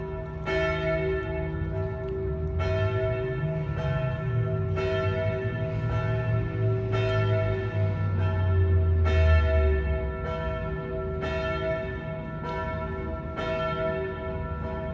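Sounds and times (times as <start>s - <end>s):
church bells ringing: 0.0s - 14.9s.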